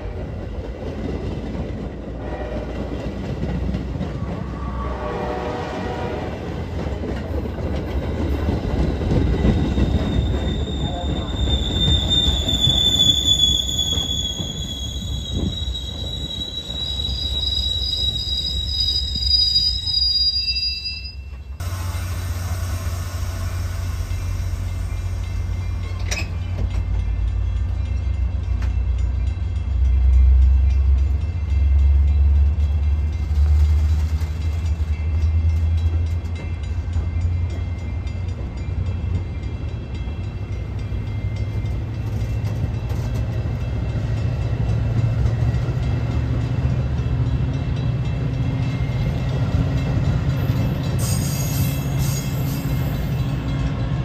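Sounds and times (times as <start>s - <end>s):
train wheels squealing on rails: 6.8s - 28.7s, 29.9s - 54.0s.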